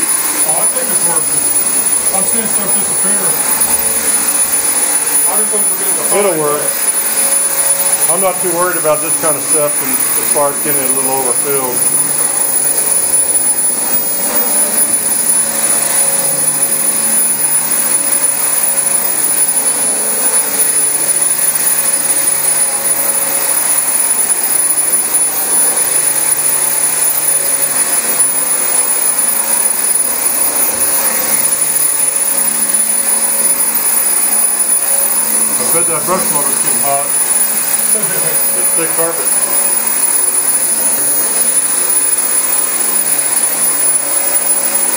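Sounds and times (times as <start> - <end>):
thin high whine: 0.0 - 44.9
vacuum cleaner on carpet: 0.0 - 44.9.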